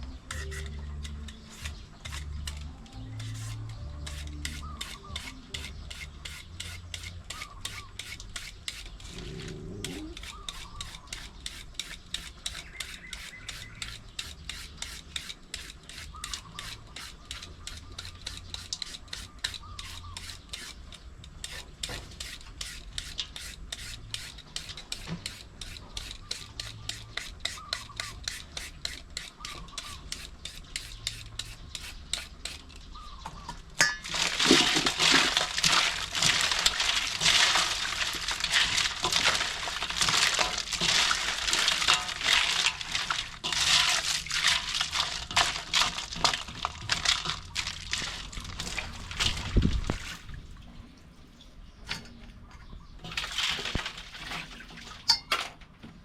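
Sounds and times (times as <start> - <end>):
papaya being shredded: 0.3 - 32.7, 34.0 - 49.6.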